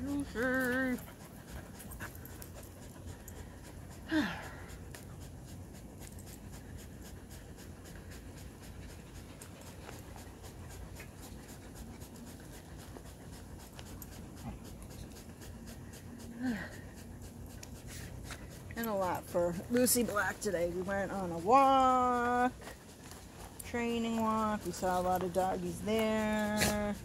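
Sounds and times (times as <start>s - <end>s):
dog panting: 0.0s - 27.0s.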